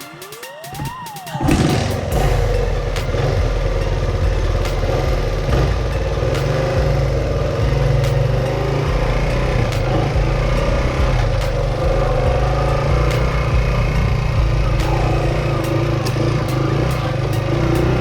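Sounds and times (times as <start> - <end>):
electronic music sweep: 0.0 - 18.0
motorcycle engine running: 1.3 - 18.0.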